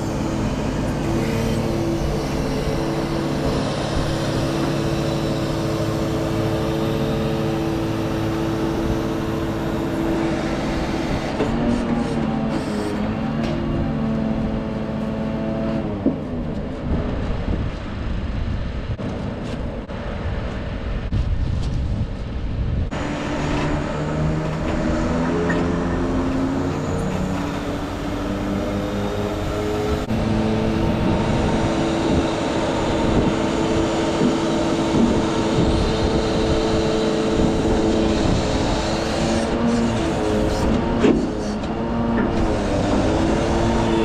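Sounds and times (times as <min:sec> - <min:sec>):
hydraulic crane whining: 0:00.0 - 0:21.1, 0:22.9 - 0:44.0
truck engine running: 0:00.0 - 0:44.0.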